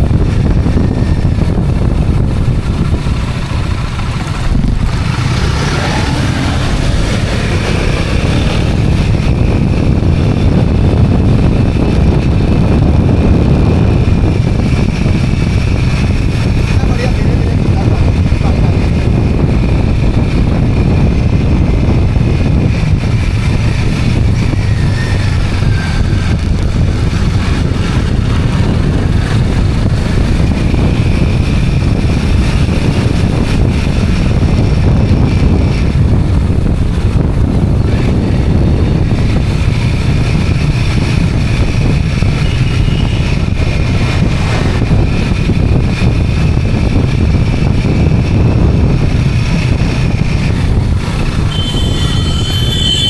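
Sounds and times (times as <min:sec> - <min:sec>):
motorbike engine running: 0:00.0 - 0:53.0
wind rumble on microphone: 0:00.0 - 0:53.0.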